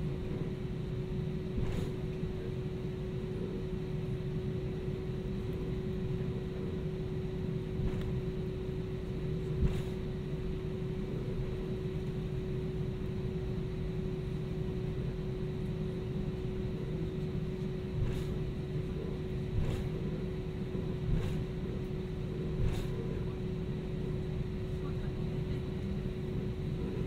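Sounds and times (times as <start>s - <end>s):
aircraft cabin rumble and whine: 0.0s - 27.0s.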